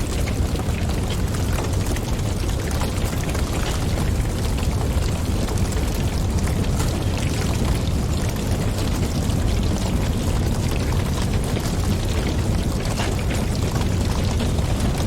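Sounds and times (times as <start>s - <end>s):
fire crackling and popping: 0.0s - 15.0s
wood fire rumbling: 0.0s - 15.0s.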